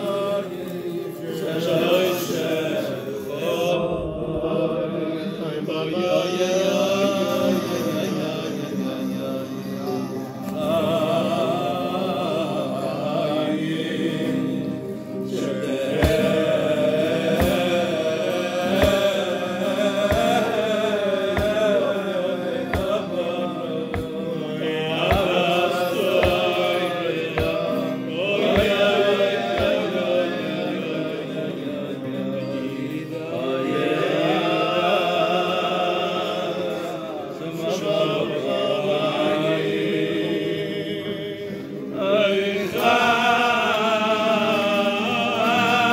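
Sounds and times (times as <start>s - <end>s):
acoustic guitar: 0.0s - 45.9s
men singing together: 0.0s - 45.9s.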